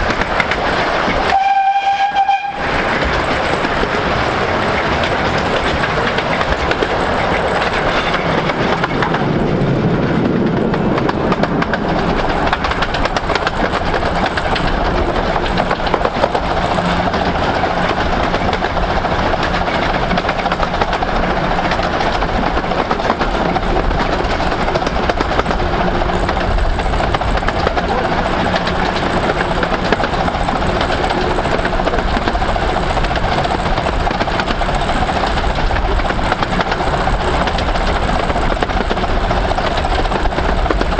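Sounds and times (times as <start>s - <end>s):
train wheels rumbling on rail: 0.0s - 40.9s
clattering over rail joints: 2.7s - 40.9s.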